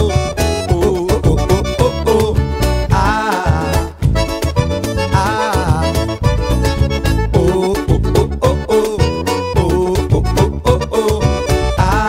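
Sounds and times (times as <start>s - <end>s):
accordion melody: 0.0s - 12.0s
bass and drum beat: 0.0s - 12.0s.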